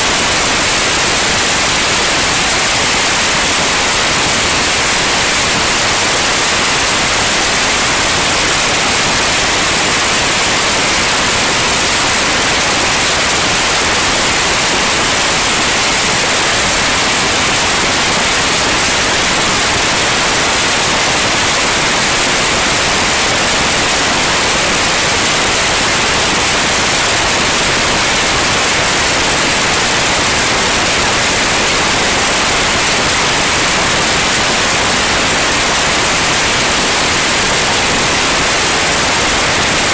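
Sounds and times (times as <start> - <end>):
static-like hiss: 0.0 - 39.9.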